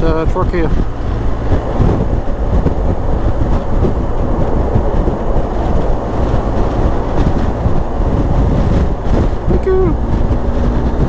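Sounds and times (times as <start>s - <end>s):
motorcycle engine droning: 0.0s - 11.0s
wind and road rush: 0.0s - 11.0s.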